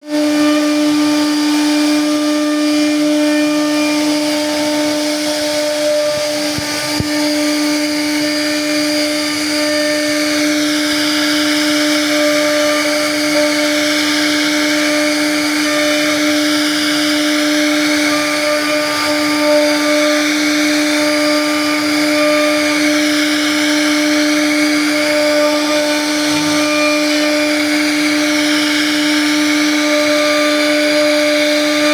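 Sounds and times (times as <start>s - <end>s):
bit carving wood: 0.0s - 31.9s
router spindle whining: 0.0s - 31.9s.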